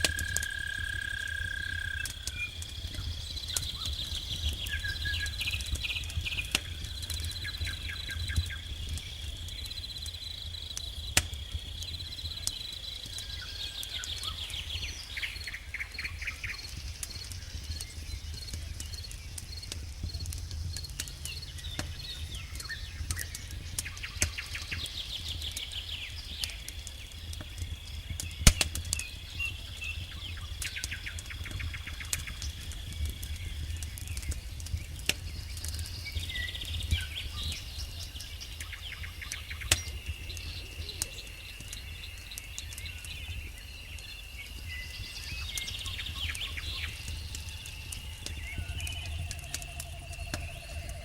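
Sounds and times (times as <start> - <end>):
campfire crackling and popping: 0.0 - 51.0
crickets trilling and chirping: 0.0 - 51.0.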